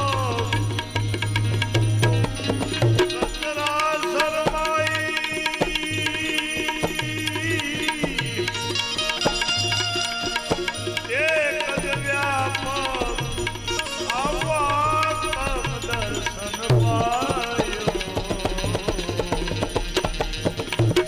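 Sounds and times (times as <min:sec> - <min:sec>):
sliding melody: 0:00.0 - 0:19.6
tabla rhythm: 0:00.0 - 0:21.0.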